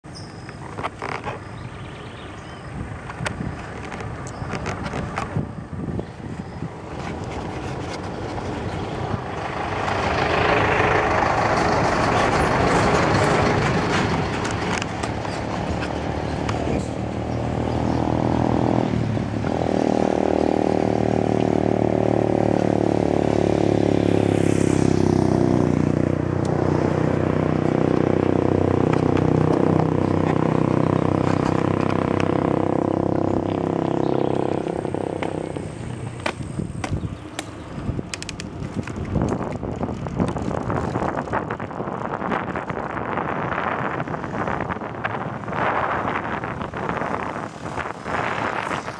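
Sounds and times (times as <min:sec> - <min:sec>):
motor vehicle engine droning: 0:00.0 - 0:48.9
wind noise on microphone: 0:00.0 - 0:48.9.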